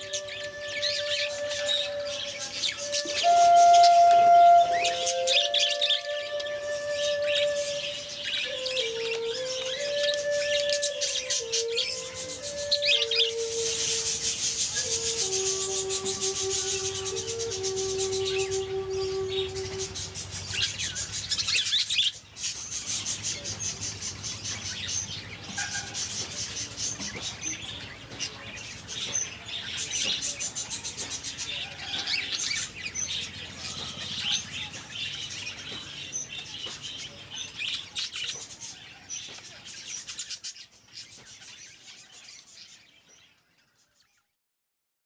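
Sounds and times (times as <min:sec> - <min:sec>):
birds chirping: 0:00.0 - 0:44.4.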